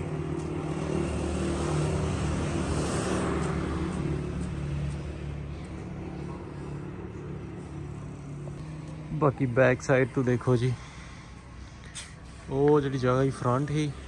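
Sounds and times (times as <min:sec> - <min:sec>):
vehicle engine humming: 0:00.0 - 0:14.0
vehicle passing rush: 0:00.0 - 0:14.0.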